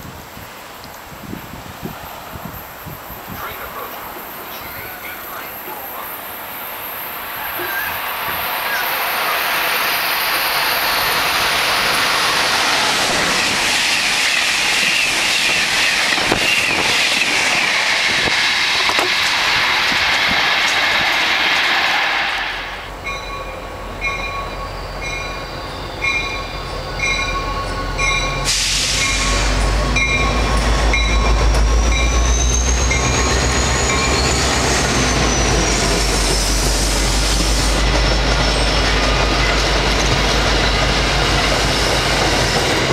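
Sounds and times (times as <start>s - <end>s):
train passing at speed: 0.0s - 42.9s.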